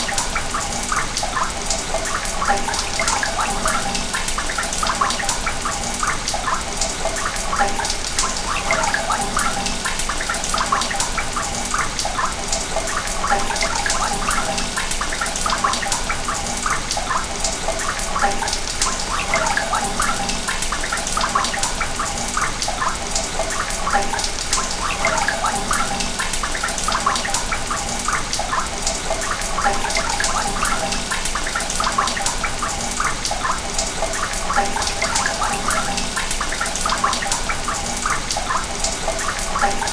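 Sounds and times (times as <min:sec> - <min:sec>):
water rushing through pipes: 0:00.0 - 0:39.9.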